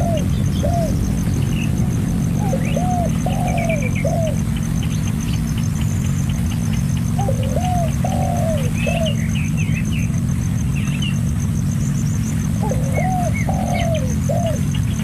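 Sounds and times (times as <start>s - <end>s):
dove cooing: 0.0s - 9.8s, 12.4s - 15.0s
steady low rumble: 0.0s - 15.0s.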